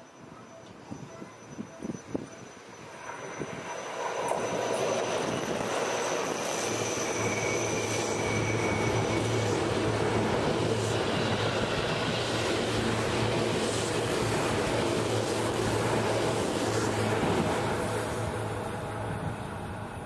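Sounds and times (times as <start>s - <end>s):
thin high whine: 0.0s - 20.0s
train wheels rumbling on rails: 2.9s - 20.0s.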